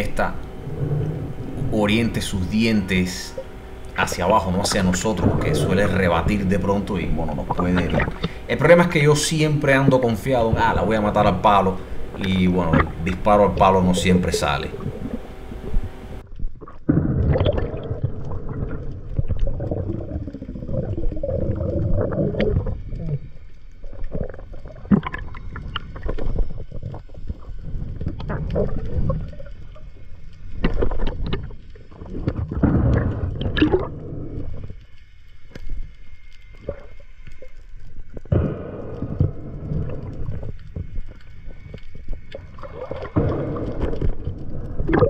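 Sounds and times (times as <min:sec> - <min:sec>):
underwater swishing and gurgling: 0:00.0 - 0:45.0.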